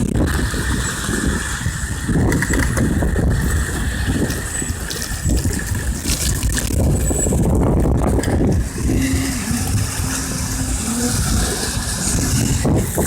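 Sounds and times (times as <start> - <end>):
steady hum: 0.0 - 13.0
vehicle engine rumbling: 0.0 - 13.0.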